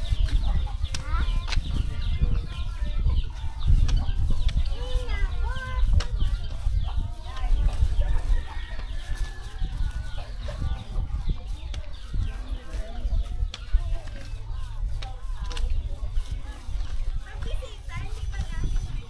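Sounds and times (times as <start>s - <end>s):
chickens clucking: 0.0s - 19.0s
steady low rumble: 0.0s - 19.0s.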